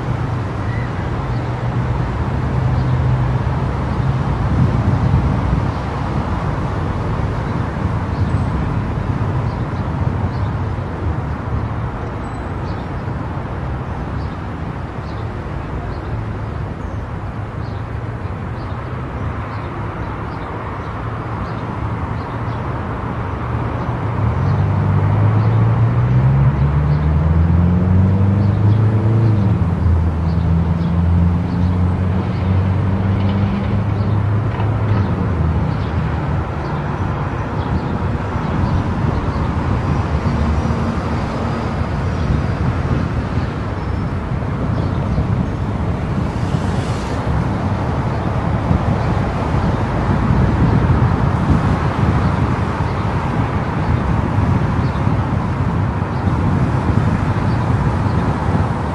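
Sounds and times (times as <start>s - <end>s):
tyre and road noise: 0.0s - 58.9s.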